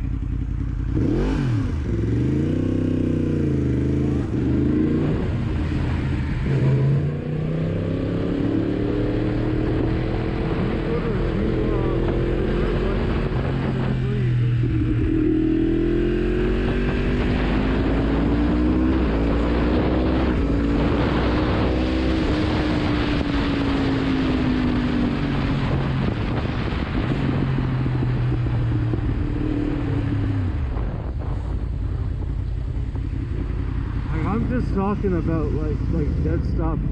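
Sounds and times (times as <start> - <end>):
motorcycle engine revving: 0.0 - 36.9
wind on microphone: 1.1 - 36.9.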